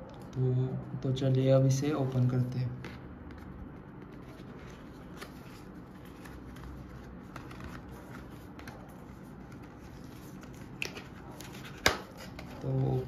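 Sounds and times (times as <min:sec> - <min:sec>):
low background hum: 0:00.0 - 0:13.0
papery rustling: 0:02.1 - 0:13.0.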